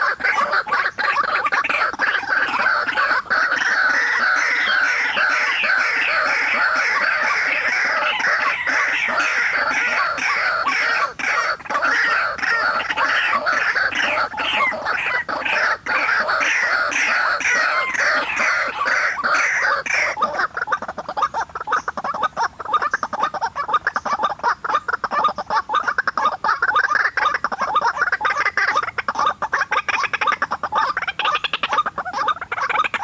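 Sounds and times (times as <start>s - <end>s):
waterhens calling: 0.0s - 33.0s.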